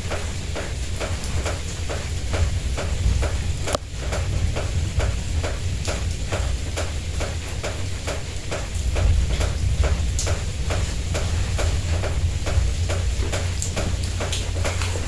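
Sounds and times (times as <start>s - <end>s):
steady rain: 0.0s - 15.0s
water dripping: 0.0s - 15.0s.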